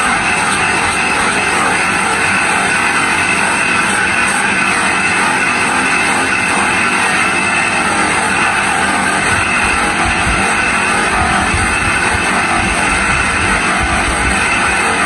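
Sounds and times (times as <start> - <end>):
bench buffer motor running: 0.0 - 15.0.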